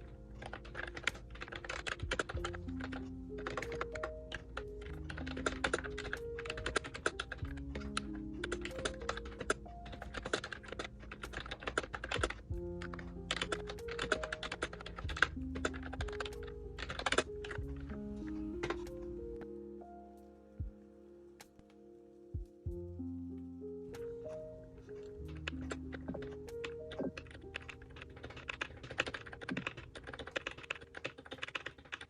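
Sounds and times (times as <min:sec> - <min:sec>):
clicky keyboard typing: 0:00.0 - 0:19.5, 0:23.9 - 0:32.0
background music: 0:00.0 - 0:32.0.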